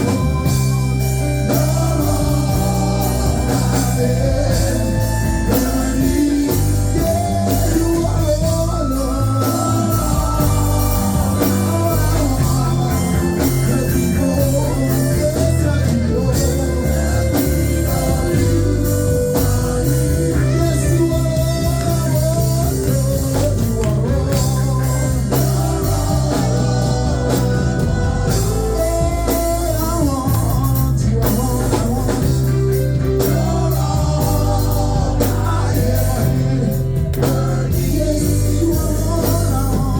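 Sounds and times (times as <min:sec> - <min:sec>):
gospel band playing: 0:00.0 - 0:39.9
people singing: 0:00.0 - 0:39.9.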